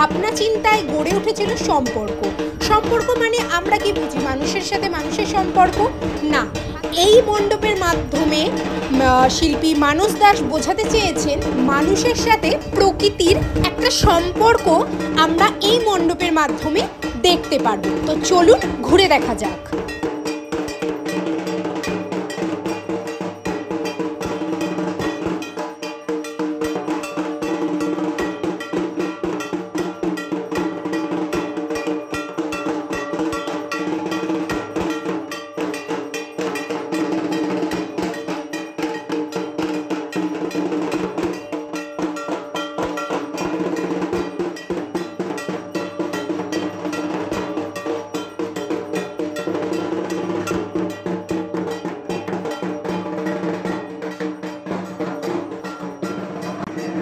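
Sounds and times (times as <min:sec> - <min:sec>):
rapid metallic bell strikes: 0:00.0 - 0:57.0.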